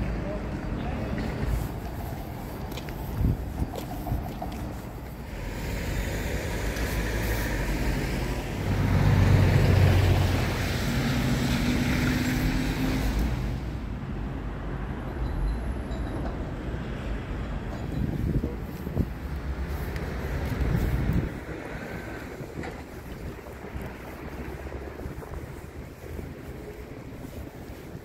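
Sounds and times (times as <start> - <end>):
vehicles driving past: 0.0 - 28.0.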